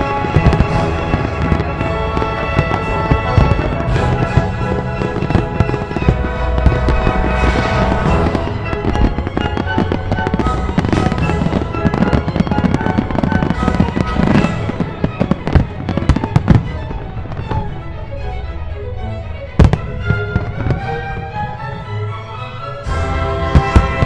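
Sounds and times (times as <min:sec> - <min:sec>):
fireworks bangs and crackles: 0:00.0 - 0:18.0, 0:19.6 - 0:21.4, 0:22.8 - 0:24.0
music playing: 0:00.0 - 0:24.0.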